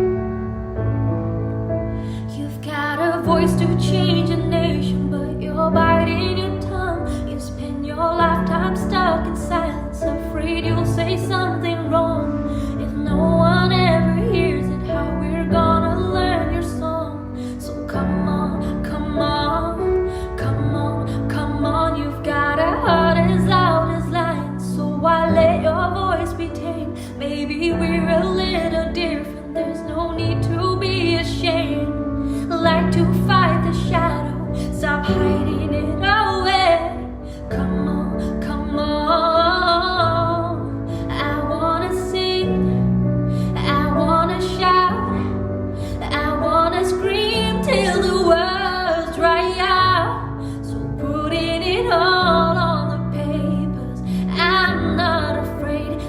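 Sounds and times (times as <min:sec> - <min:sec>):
woman singing slow song: 0:02.0 - 0:56.0.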